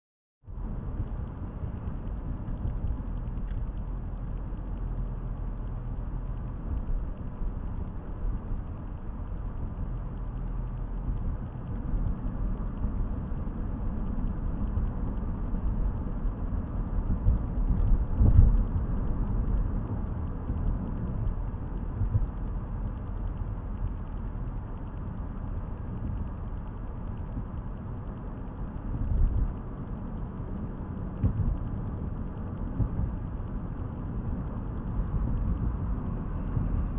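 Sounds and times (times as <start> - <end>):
car engine and tyre rumble: 0.5 - 36.9.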